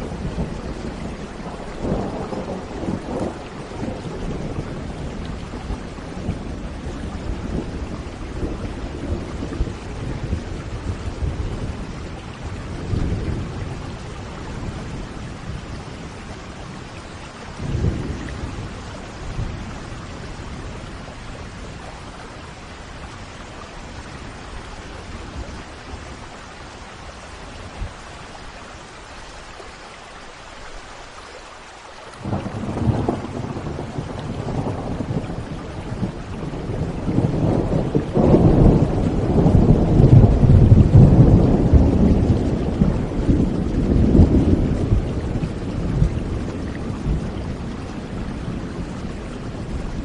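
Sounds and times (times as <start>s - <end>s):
thunder rumbling: 0.0s - 26.4s, 32.2s - 50.0s
steady rain falling: 0.0s - 50.0s.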